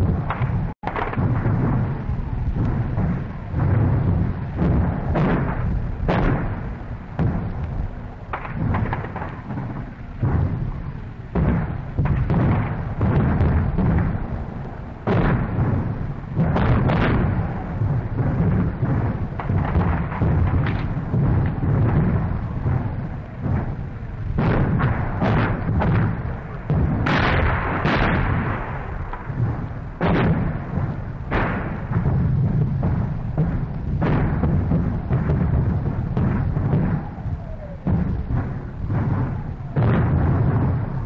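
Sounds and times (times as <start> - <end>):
heavy artillery rumble: 0.0 - 41.0
sharp explosion blasts: 0.0 - 41.0.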